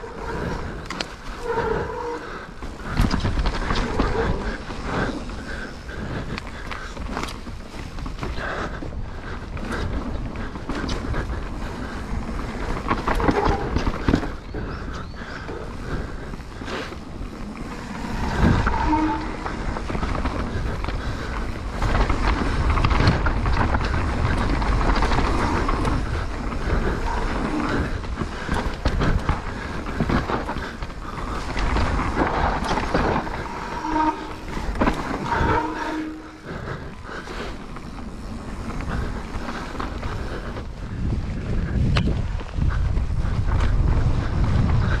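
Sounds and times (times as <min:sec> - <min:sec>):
bike rattling over bumps: 0:00.0 - 0:45.0
bike tyres rumbling on dirt: 0:00.0 - 0:45.0.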